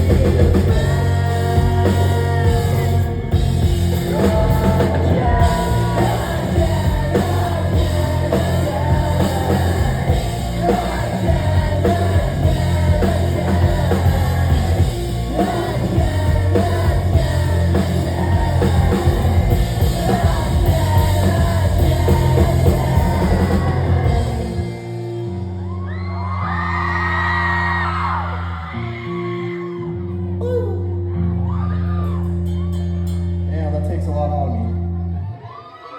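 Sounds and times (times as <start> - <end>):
crowd yelling and whooping: 0.0 - 33.1, 34.9 - 35.9
live rock band with singer: 0.0 - 35.4.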